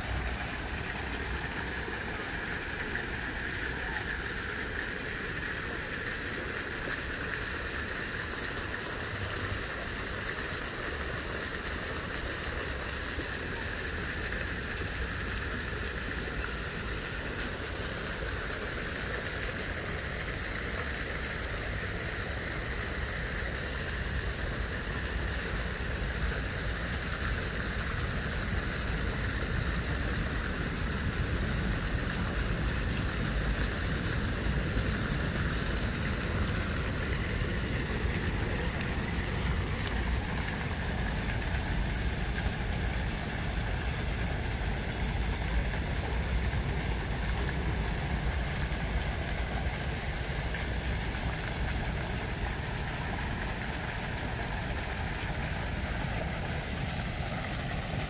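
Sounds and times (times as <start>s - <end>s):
rushing hiss: 0.0s - 58.0s.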